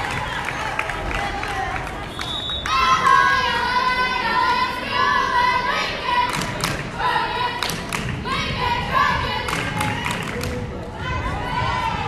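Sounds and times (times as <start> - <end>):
girls chanting a cheer: 0.0 - 12.0.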